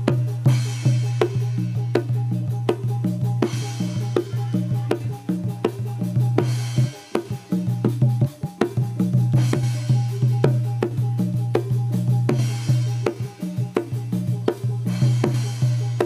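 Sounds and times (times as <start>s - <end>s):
drums and percussion music: 0.0s - 16.0s.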